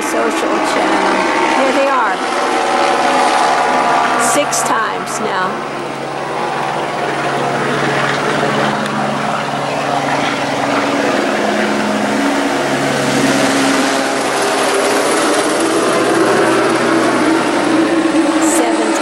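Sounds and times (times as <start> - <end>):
helicopter passing overhead: 0.0 - 19.0.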